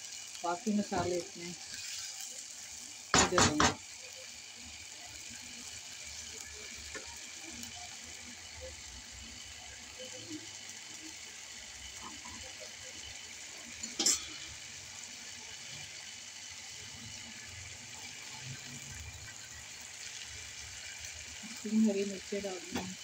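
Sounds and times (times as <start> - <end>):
curry sizzling in a pan: 0.0 - 23.0.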